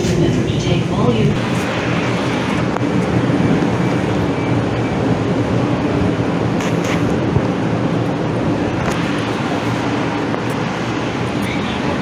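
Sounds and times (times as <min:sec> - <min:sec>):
light-rail car rumbling: 0:00.0 - 0:12.0.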